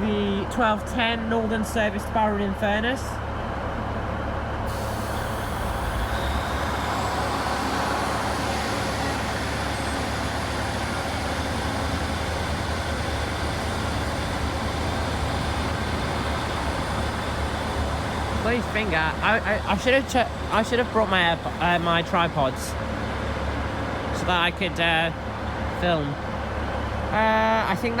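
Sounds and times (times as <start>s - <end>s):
train diesel engines running: 0.0s - 28.0s.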